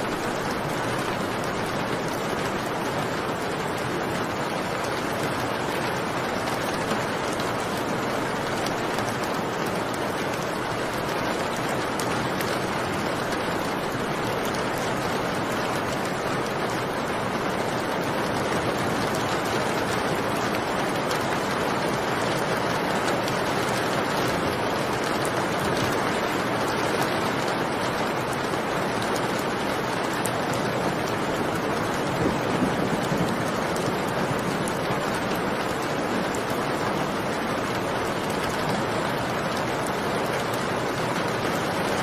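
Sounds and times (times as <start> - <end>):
rain falling steadily: 0.0 - 42.0.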